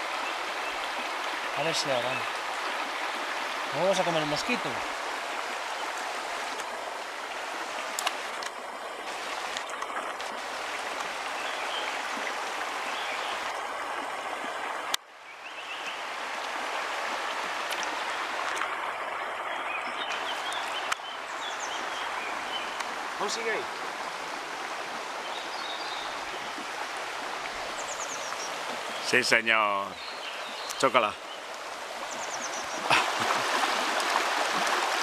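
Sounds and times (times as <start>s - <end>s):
river water flowing over stones: 0.0s - 35.0s.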